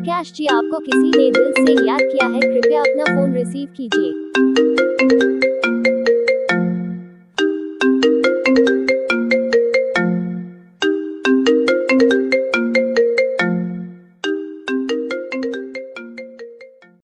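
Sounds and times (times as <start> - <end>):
mobile phone ringtone: 0.0 - 17.0.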